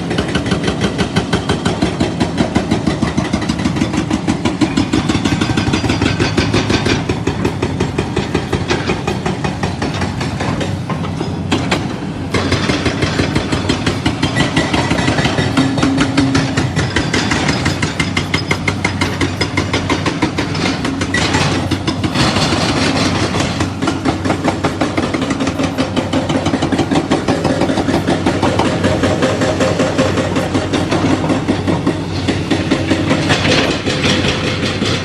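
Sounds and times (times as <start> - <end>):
hydraulic breaker hammering rock: 0.0 - 35.0
machine engine hum: 0.0 - 35.0.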